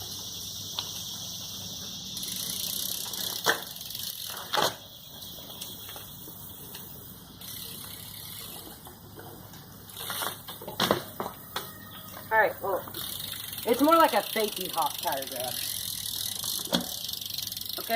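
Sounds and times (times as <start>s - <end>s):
bike being handled: 0.0s - 17.9s
high insect chirring: 0.0s - 17.9s.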